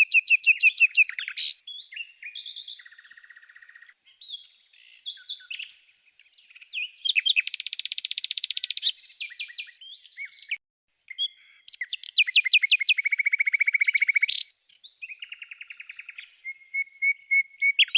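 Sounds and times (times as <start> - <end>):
songbird trills and chirps: 0.0 - 17.9.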